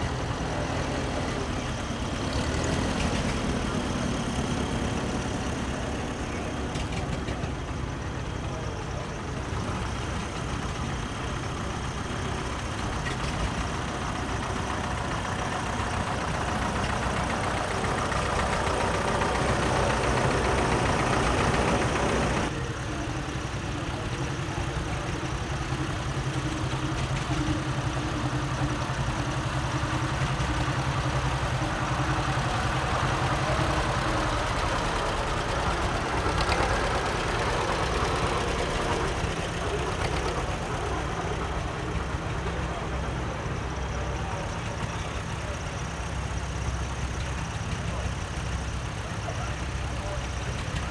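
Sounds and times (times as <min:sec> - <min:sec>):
tractor engines running: 0:00.0 - 0:50.9.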